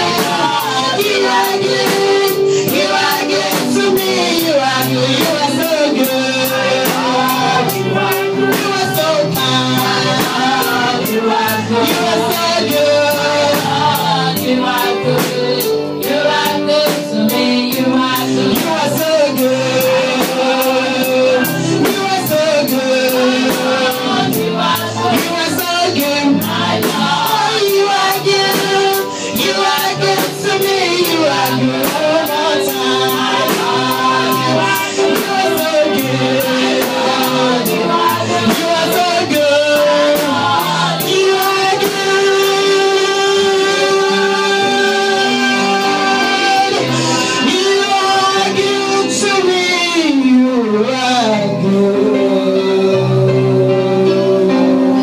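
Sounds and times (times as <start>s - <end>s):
choir singing over instruments: 0.0s - 55.0s.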